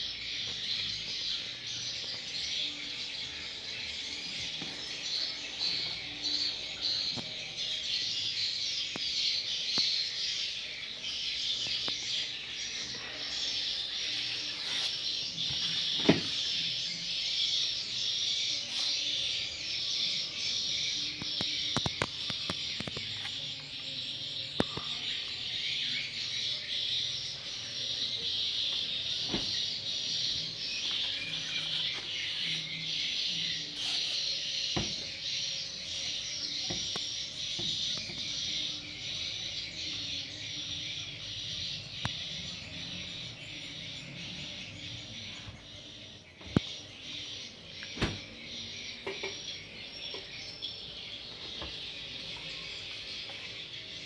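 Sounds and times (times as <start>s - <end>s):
high-pitched chirping chorus: 0.0s - 54.0s.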